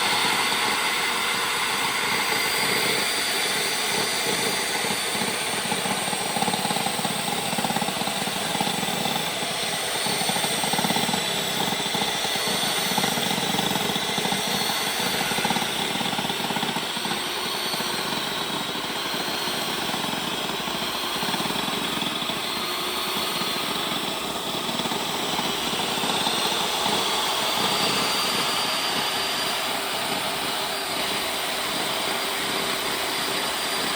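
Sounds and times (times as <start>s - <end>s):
table saw cutting with whine: 0.0s - 33.9s.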